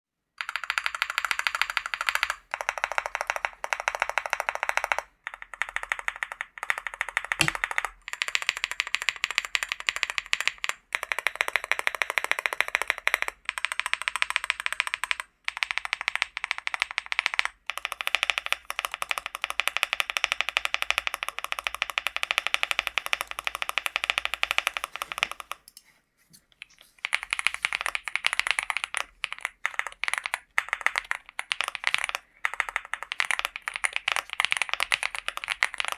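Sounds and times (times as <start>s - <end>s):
fast keyboard typing: 0.4s - 25.7s, 26.6s - 35.9s.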